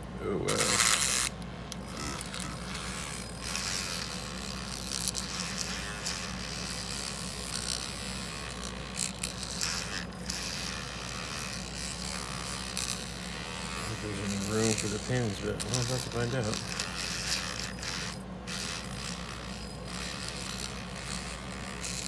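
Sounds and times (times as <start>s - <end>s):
electric toothbrush buzzing: 0.2s - 22.0s
wire scraping padlock pins: 0.5s - 22.0s.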